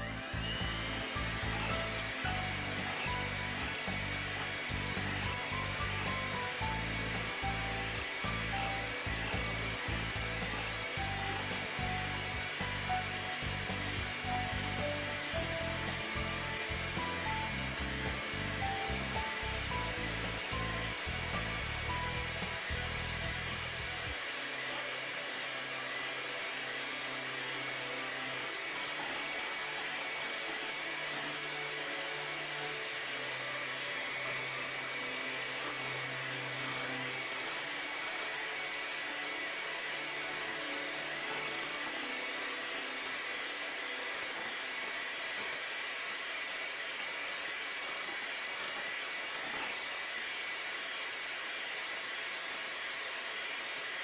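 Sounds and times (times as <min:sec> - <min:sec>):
electric hand mixer running: 0:00.0 - 0:54.0.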